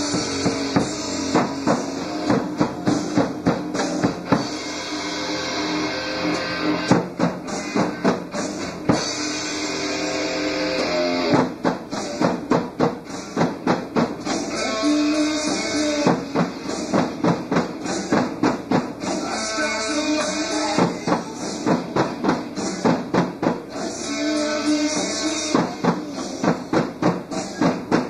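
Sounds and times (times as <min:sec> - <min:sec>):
padded drum kit hits: 0:00.0 - 0:28.0
recorded rock music playback: 0:00.0 - 0:28.0.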